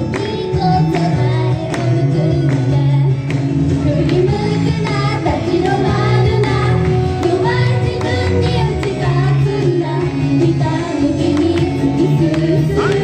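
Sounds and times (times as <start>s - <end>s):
pop backing track: 0.0s - 13.0s
young women singing: 0.0s - 13.0s.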